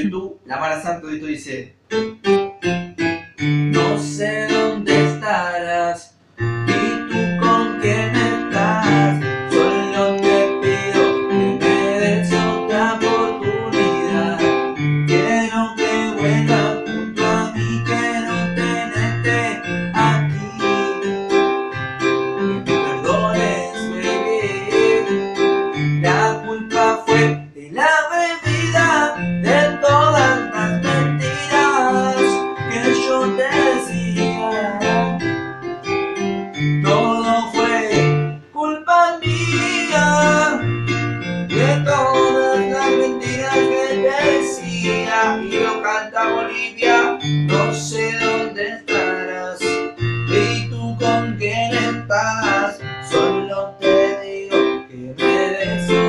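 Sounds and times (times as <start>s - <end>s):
electronic keyboard song: 0.0s - 56.0s
man singing: 3.7s - 21.4s, 22.4s - 35.2s, 36.8s - 40.6s, 41.5s - 56.0s.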